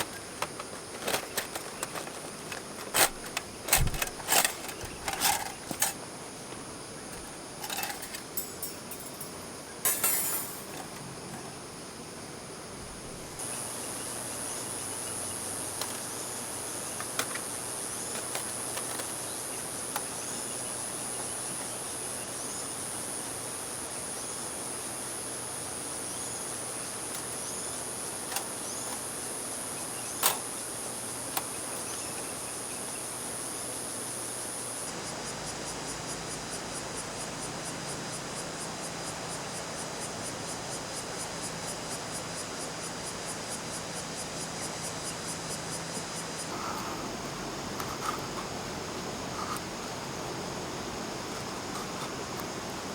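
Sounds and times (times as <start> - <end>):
night insects buzzing and chirping: 0.0 - 52.9.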